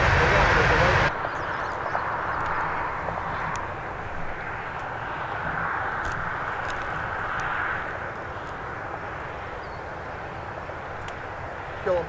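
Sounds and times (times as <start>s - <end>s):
low traffic rumble: 0.0s - 12.0s
vehicle passing: 0.0s - 12.0s.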